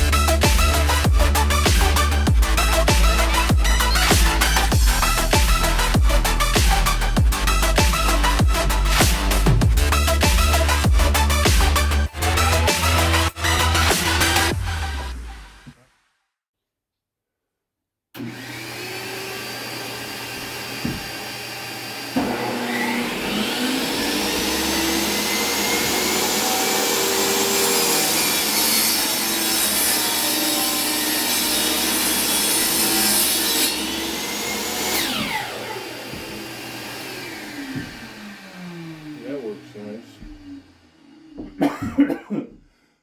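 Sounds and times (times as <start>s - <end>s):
power saw cutting wood: 0.0s - 15.8s, 18.2s - 42.1s.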